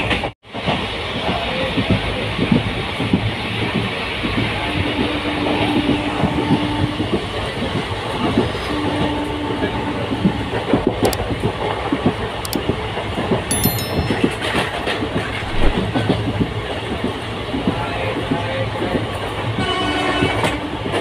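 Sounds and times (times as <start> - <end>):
train rumbling inside coach: 0.0 - 21.0.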